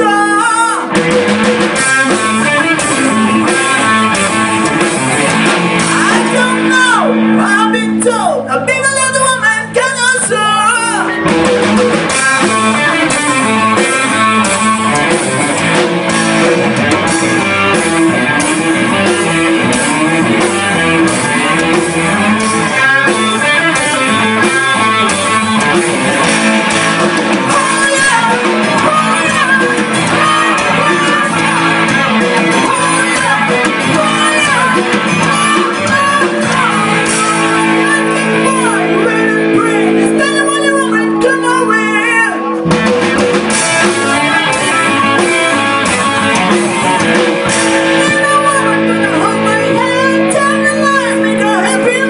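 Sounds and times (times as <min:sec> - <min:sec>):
band music with guitar: 0:00.0 - 0:52.0.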